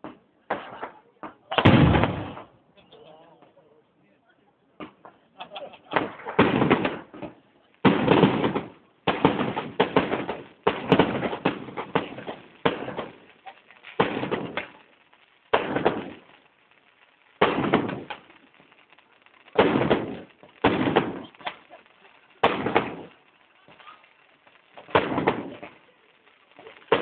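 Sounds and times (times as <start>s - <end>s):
fireworks bangs: 0.0s - 3.5s, 4.7s - 27.0s.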